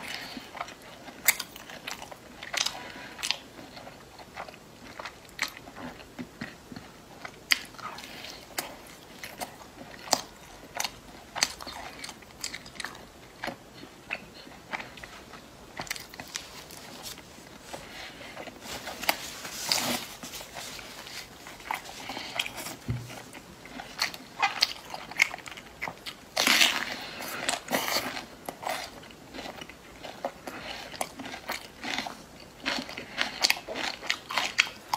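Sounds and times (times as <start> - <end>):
person chewing crunchy food: 0.0 - 34.9.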